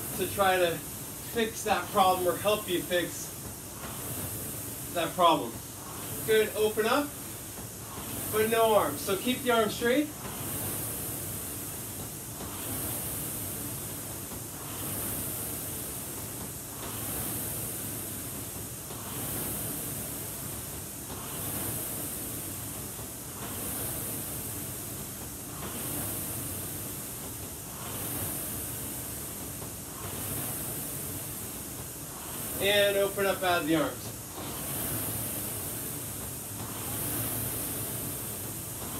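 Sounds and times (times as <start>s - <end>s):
rowing machine flywheel whooshing: 0.0s - 38.9s.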